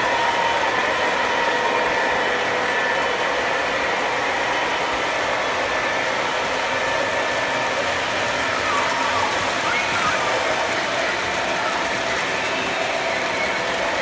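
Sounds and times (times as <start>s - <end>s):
locomotive motor whine: 0.0s - 14.0s
model train wheels rumbling: 0.0s - 14.0s.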